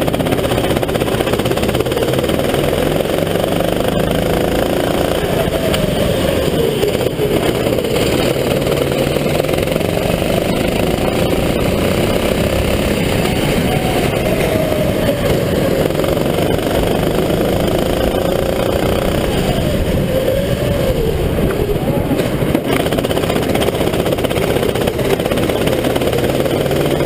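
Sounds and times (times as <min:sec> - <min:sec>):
kart engine at racing speed: 0:00.0 - 0:27.0.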